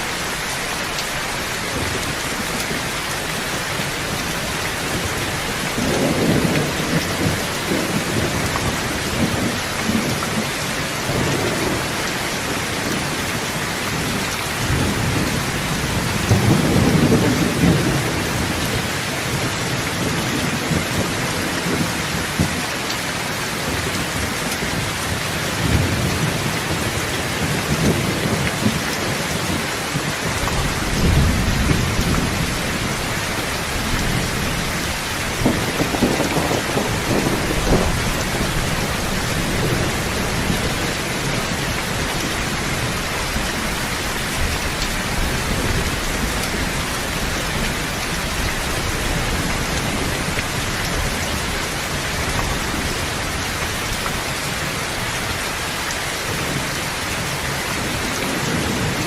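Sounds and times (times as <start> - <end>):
heavy rain: 0.0 - 59.0
rolling thunder: 4.2 - 22.6, 25.5 - 54.7.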